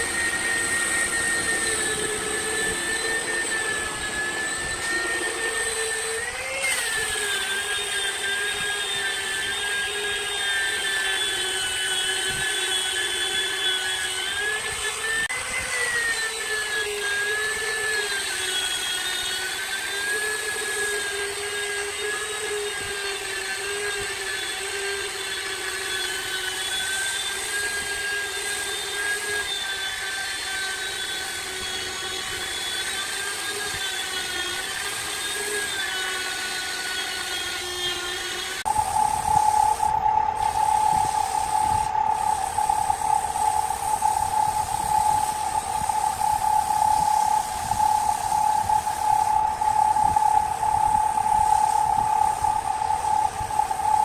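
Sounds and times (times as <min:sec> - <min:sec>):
angle grinder sanding wood: 0:00.0 - 0:54.0.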